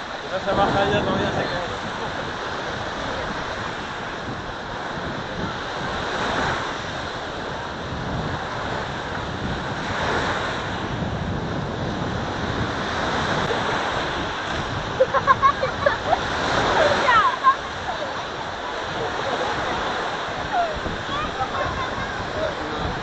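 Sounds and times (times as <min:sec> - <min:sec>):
sea waves breaking on shore: 0:00.0 - 0:23.0
wind rumbling on microphone: 0:00.0 - 0:23.0.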